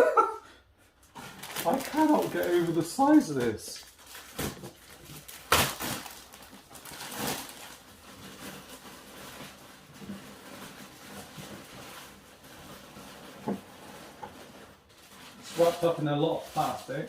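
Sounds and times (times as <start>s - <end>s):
plastic packaging crackling: 1.1s - 17.0s.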